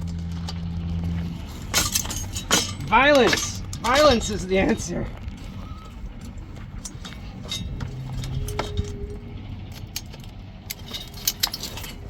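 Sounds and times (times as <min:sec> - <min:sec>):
small metal parts clinking: 0:00.0 - 0:12.0.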